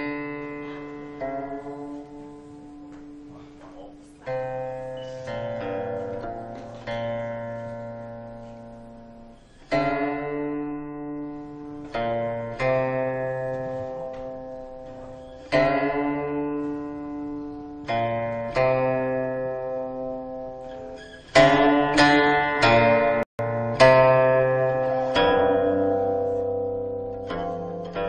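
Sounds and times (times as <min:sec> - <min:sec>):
plucked string instrument: 0:00.0 - 0:28.0.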